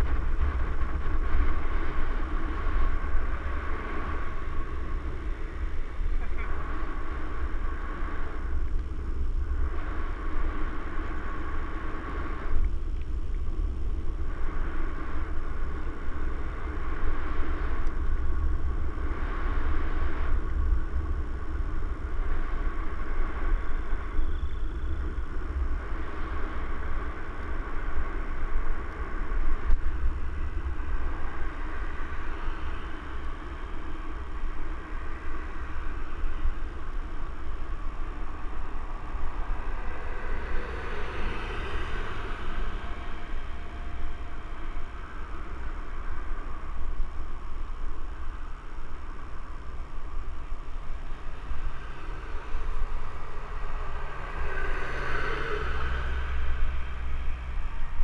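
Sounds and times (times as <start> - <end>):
steady rushing noise: 0.0 - 58.0
wind rumble on microphone: 0.0 - 58.0.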